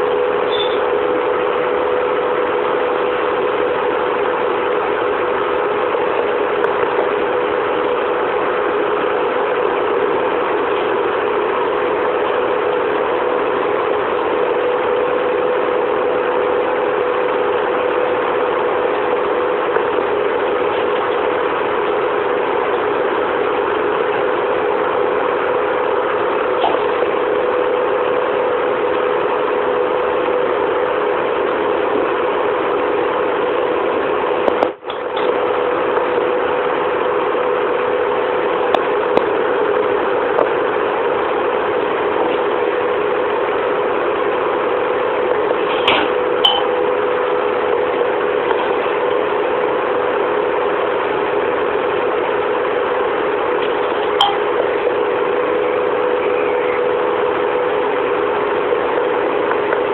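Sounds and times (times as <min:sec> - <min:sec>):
constant hum: 0:00.0 - 0:59.9.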